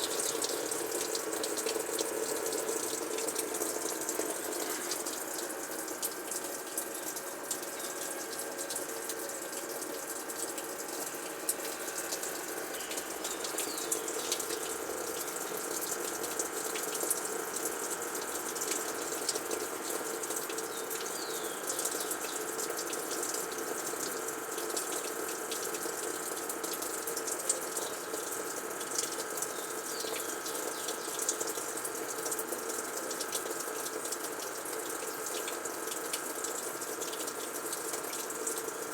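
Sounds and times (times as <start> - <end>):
washing machine hum: 0.0 - 38.9.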